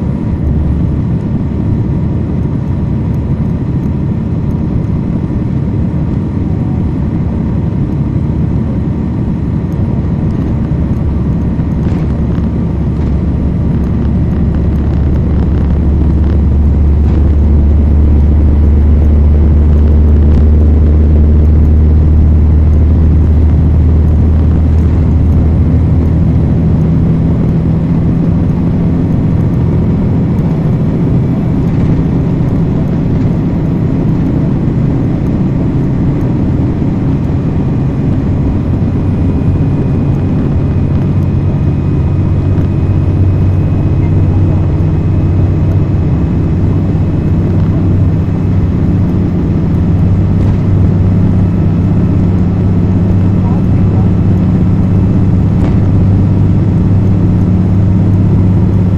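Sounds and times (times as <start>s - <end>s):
bus diesel engine droning: 0.0s - 58.9s.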